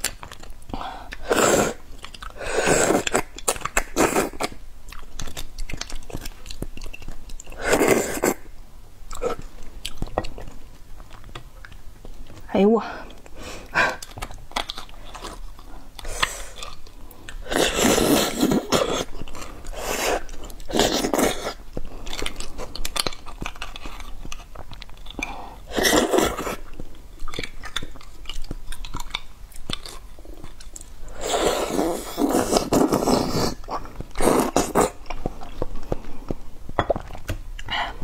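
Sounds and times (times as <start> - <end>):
wet chewing and biting: 0.0 - 8.5, 13.1 - 37.7.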